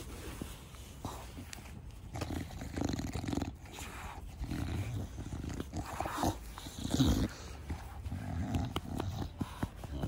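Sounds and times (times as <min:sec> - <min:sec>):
dog snorting and snuffling: 0:00.0 - 0:10.0.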